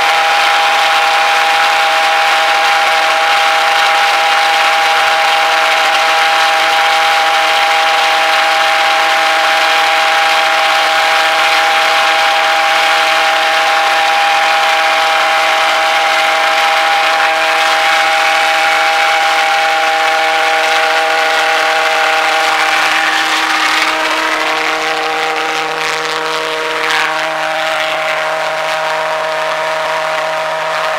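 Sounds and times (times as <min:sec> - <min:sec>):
pulse jet engine droning: 0:00.0 - 0:30.9.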